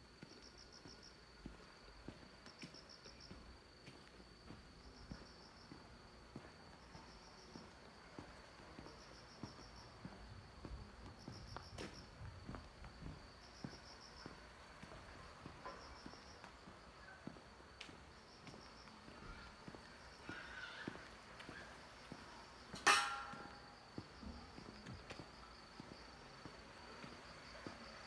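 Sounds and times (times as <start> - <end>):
insect pulsed chirp: 0.0 - 28.0
insects trilling: 0.0 - 28.0
footsteps walking: 0.2 - 28.0.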